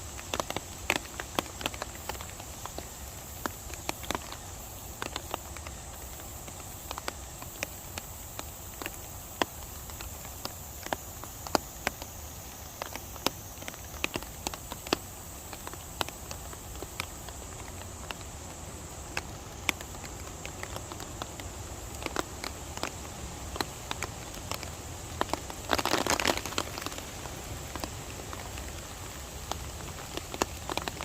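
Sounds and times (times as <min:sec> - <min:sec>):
rain hiss: 0:00.0 - 0:31.0
raindrops tapping: 0:00.0 - 0:31.0.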